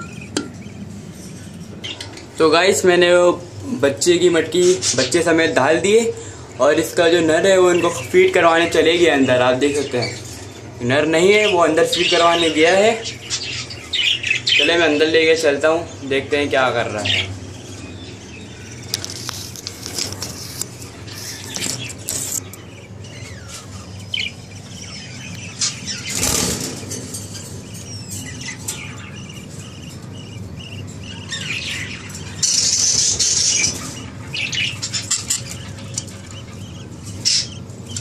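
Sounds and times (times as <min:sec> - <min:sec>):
budgerigars chirping: 0:00.0 - 0:38.0.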